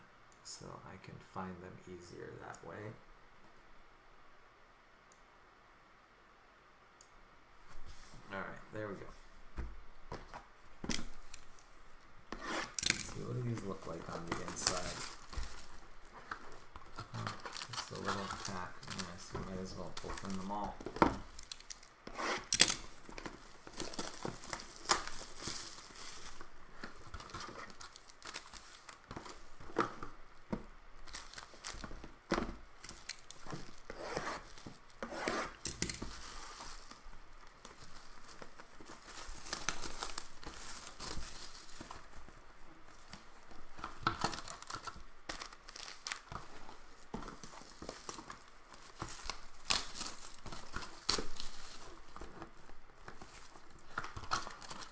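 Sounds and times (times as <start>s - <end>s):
plastic wrap crackling: 8.8s - 54.9s.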